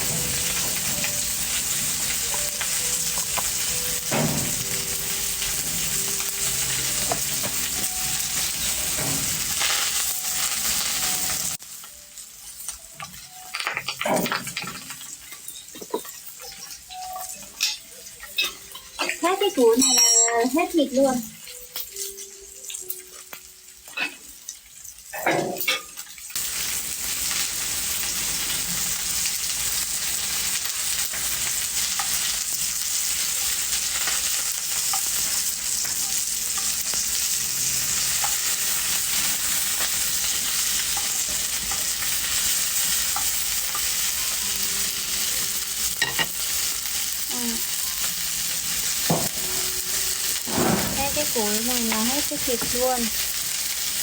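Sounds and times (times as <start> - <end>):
food sizzling in hot fat: 0.0 - 54.0.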